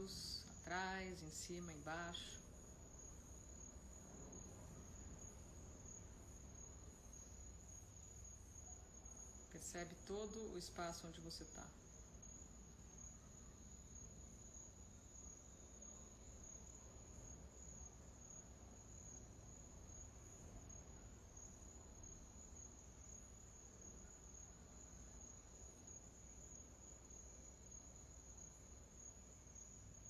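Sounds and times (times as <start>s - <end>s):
faint low hum: 0.0s - 30.0s
insect trill: 0.0s - 30.0s.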